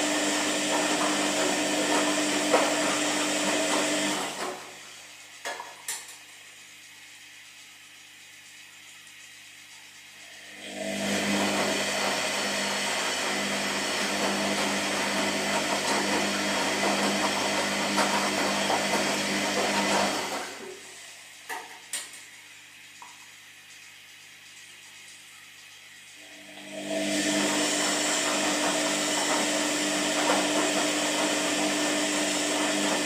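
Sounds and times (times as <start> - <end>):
washing machine hum: 0.0 - 33.0.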